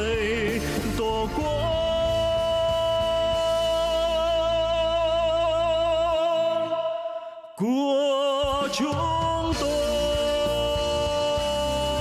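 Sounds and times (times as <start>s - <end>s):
band accompaniment: 0.0s - 6.7s, 8.4s - 12.0s.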